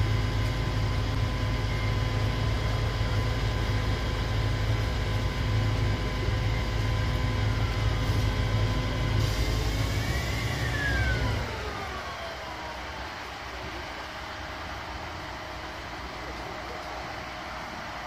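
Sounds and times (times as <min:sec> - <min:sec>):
falling whine: 0:00.0 - 0:18.0
vehicle engines rumbling: 0:00.0 - 0:18.0.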